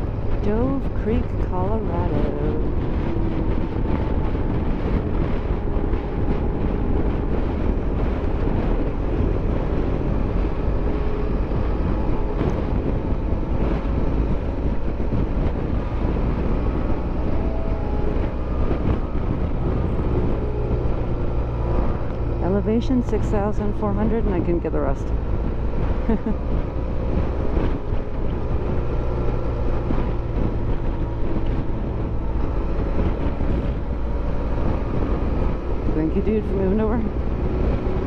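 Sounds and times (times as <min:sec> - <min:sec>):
motorcycle engine running: 0:00.0 - 0:38.0
wind buffeting microphone: 0:00.0 - 0:38.0.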